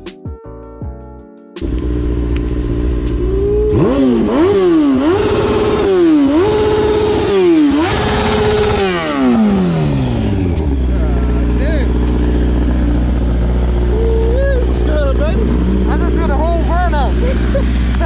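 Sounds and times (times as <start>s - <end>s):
car engine revving: 1.6s - 18.0s.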